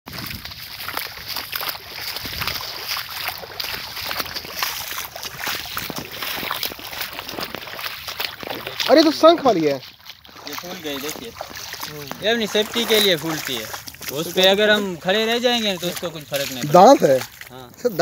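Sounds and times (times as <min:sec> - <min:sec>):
footsteps splashing in water: 0:00.0 - 0:18.0.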